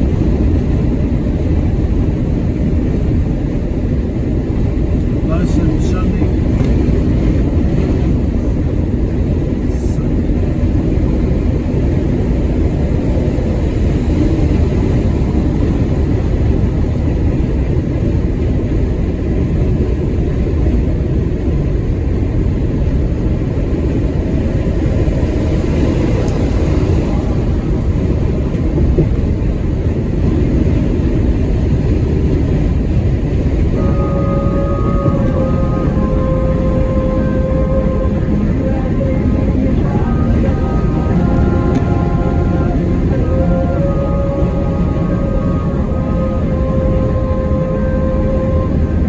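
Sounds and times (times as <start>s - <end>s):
truck engine and road drone: 0.0s - 49.0s.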